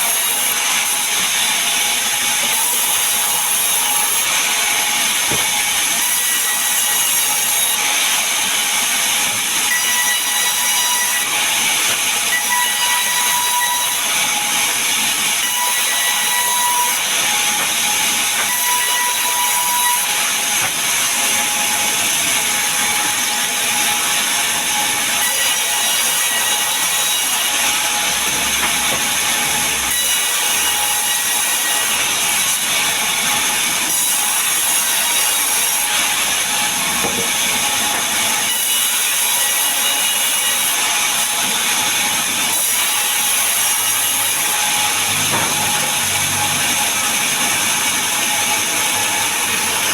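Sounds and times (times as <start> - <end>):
power saw cutting timber: 0.0 - 49.9.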